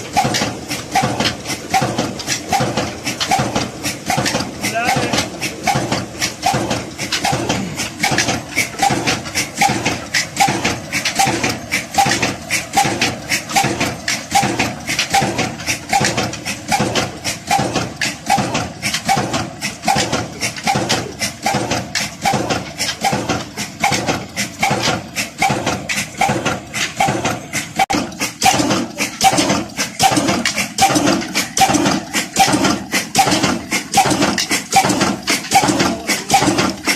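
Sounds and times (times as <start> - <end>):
diesel engine knocking at low speed: 0.0 - 36.9.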